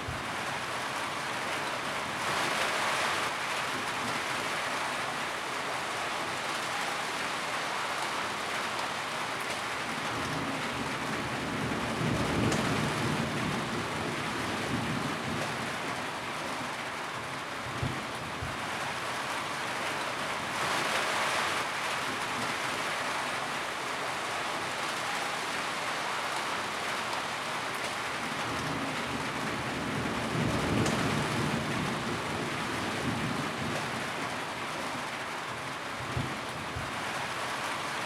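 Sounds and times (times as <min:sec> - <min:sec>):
rain on a tin roof: 0:00.0 - 0:38.0.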